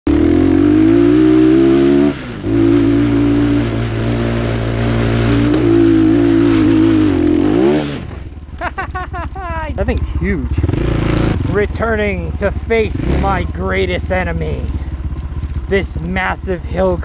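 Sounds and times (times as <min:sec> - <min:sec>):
dirt bike engine revving high: 0:00.1 - 0:09.1, 0:10.1 - 0:17.0.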